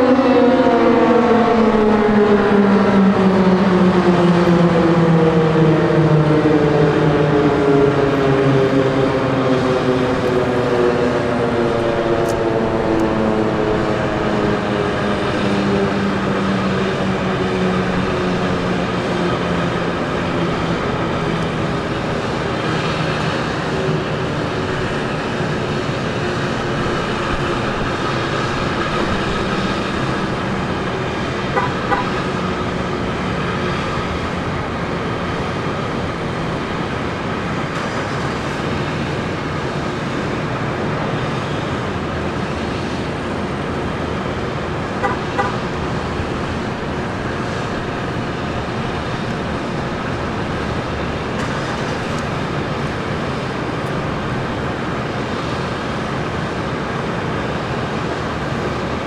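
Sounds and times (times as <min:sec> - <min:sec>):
distant warning siren steady tone: 0:00.0 - 0:59.0
road traffic noise: 0:00.0 - 0:59.0.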